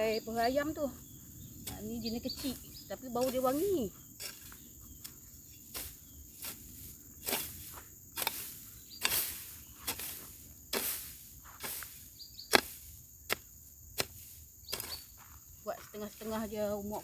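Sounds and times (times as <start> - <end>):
insects buzzing: 0.0 - 17.0
hoe scraping into dry soil: 1.5 - 17.0.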